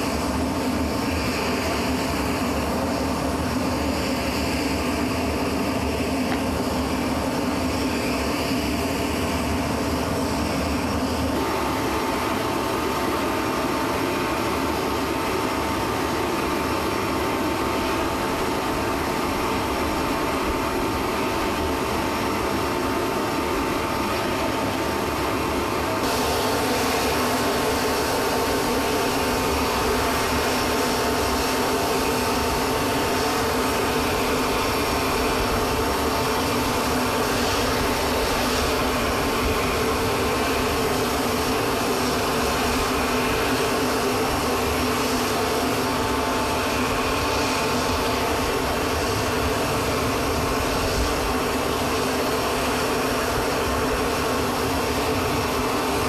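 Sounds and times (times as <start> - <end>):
aircraft turbine whine: 0.0 - 56.0.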